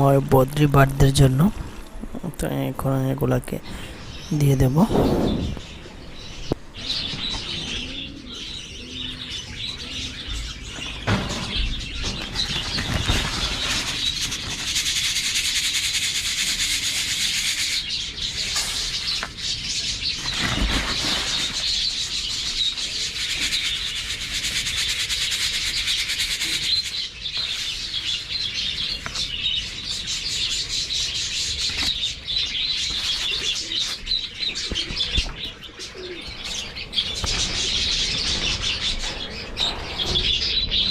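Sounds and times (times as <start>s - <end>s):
budgerigars chattering and chirping: 3.3s - 40.9s.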